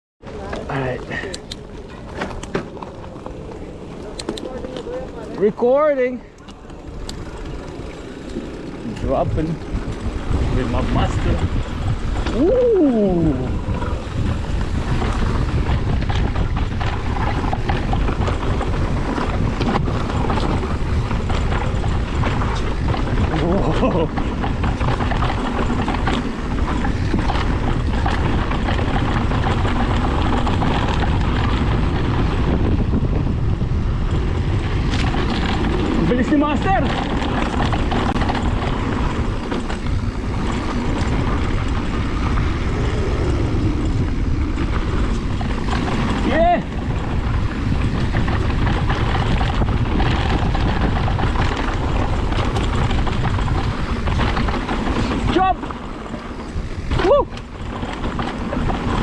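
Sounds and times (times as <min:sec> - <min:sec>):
bike rattling over bumps: 0:00.2 - 0:59.0
tyres rolling over dirt: 0:00.2 - 0:59.0
wind rushing over microphone: 0:00.2 - 0:59.0.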